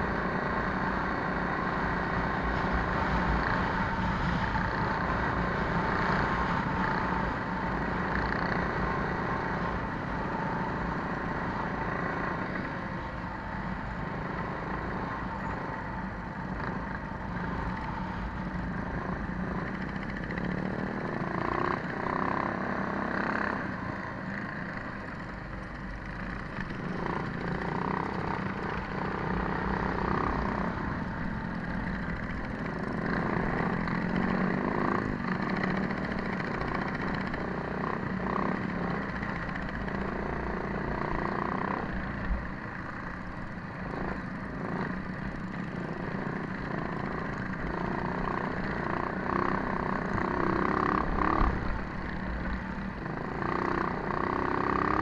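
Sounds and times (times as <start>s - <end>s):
minibike engine running: 0.0s - 55.0s
ride noise on microphone: 0.0s - 55.0s.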